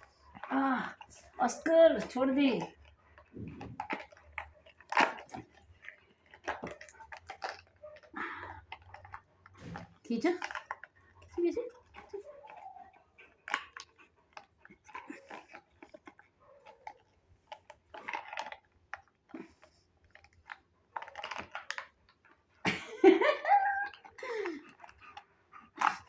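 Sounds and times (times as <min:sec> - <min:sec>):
dog mouthing a tug toy: 0:00.2 - 0:21.8, 0:23.8 - 0:26.0.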